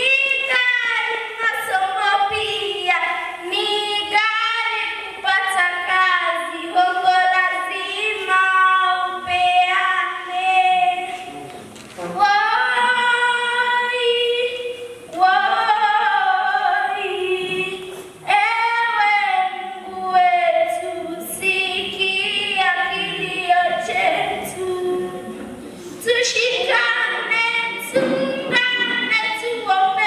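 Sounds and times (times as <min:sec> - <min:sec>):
girl singing into microphone: 0:00.0 - 0:11.4, 0:12.1 - 0:30.0.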